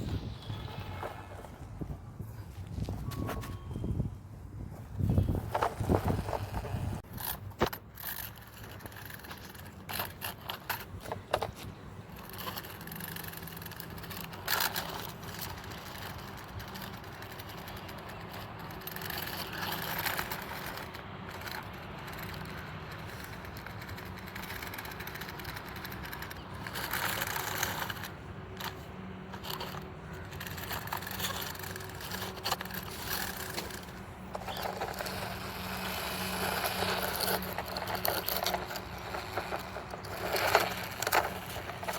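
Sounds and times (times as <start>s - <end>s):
small electric toy car motor: 0.0s - 1.6s, 5.0s - 41.9s
scrapes and clicks on rough ground: 0.0s - 41.9s.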